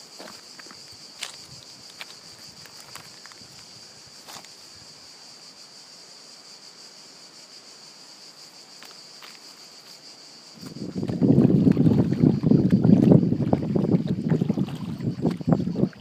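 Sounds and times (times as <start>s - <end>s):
cicadas singing: 0.0s - 16.0s.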